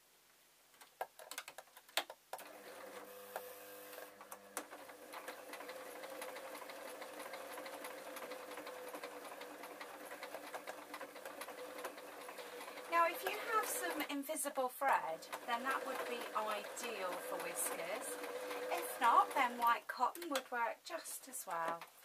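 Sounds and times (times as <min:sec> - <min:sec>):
sewing machine stitching: 0:02.3 - 0:22.0.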